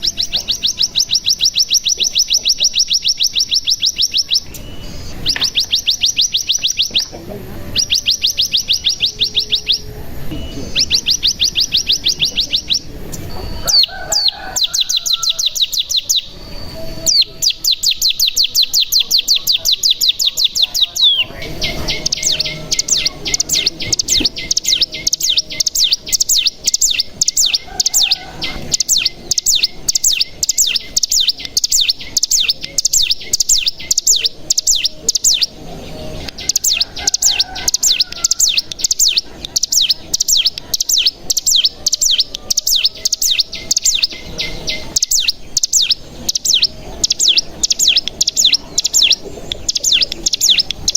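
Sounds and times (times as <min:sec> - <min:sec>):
bird singing high trills: 0:00.0 - 0:50.9.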